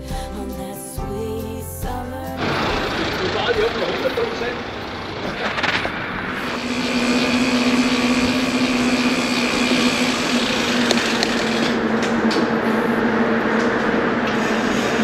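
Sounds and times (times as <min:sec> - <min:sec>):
rolling and wind noise: 0:02.4 - 0:15.0
vehicle mechanical hum: 0:02.4 - 0:15.0.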